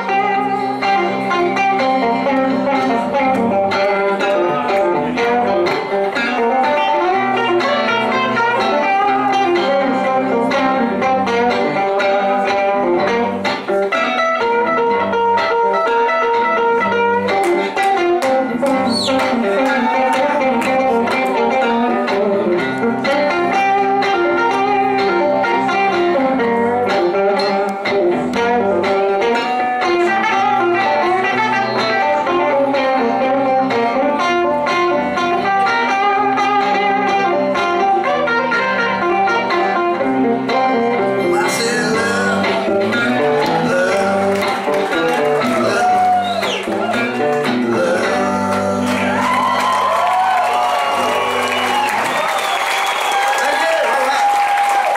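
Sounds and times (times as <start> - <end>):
electric guitars playing: 0.0 - 54.9.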